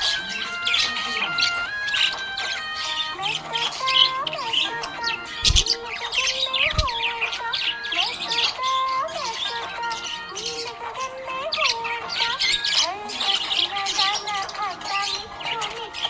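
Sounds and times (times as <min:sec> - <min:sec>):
background music held notes: 0:00.0 - 0:16.0
budgerigar chirping and warbling: 0:00.0 - 0:16.0.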